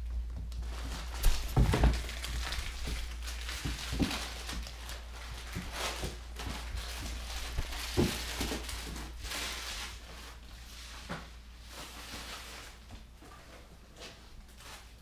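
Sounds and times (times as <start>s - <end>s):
rustling: 0.2s - 15.0s.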